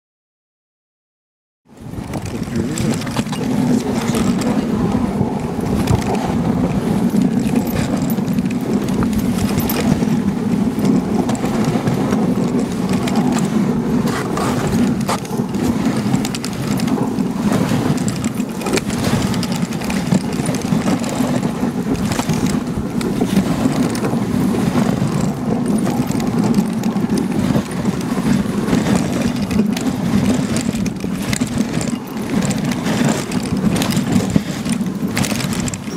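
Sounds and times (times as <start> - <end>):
sled knocks and rattles: 1.7 - 35.9
sled runners scraping on snow: 1.8 - 35.9.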